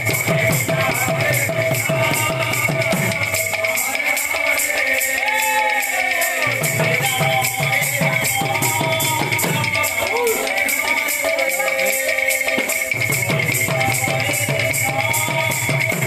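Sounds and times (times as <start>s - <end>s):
high percussion pulse: 0.0s - 16.0s.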